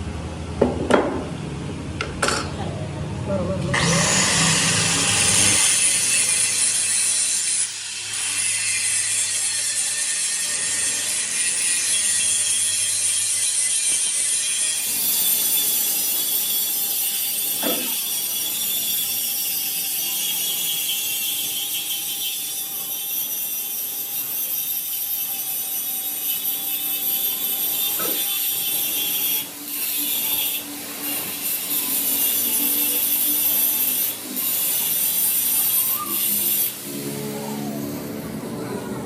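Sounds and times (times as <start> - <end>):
tool rasping on metal: 4.1 - 37.2.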